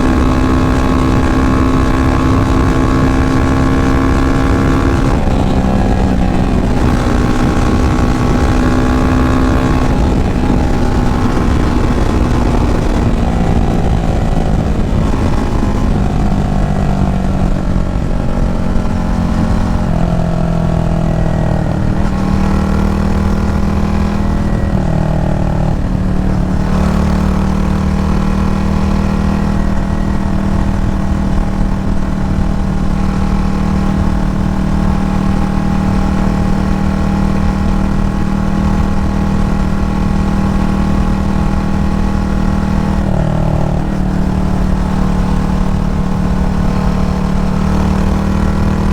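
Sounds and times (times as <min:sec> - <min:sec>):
motorcycle engine: 0:00.0 - 0:48.9.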